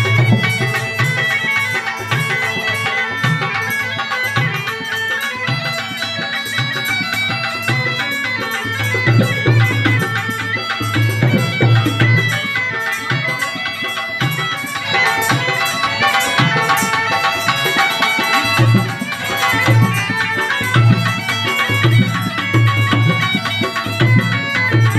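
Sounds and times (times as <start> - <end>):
hand drum beating: 0.0 - 24.9.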